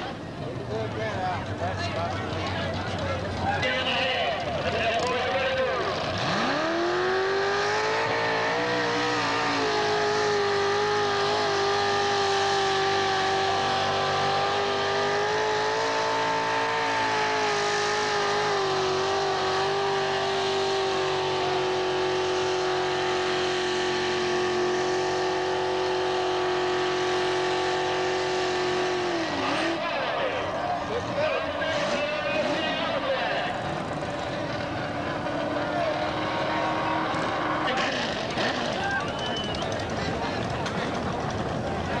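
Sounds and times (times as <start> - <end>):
car engine revving high: 5.0 - 40.4.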